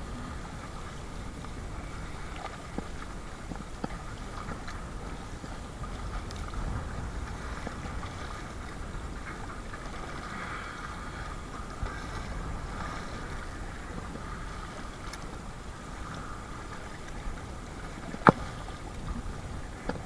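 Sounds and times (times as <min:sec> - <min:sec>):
water splashing against kayak: 0:00.0 - 0:20.0
wind rumbling on microphone: 0:00.0 - 0:20.0.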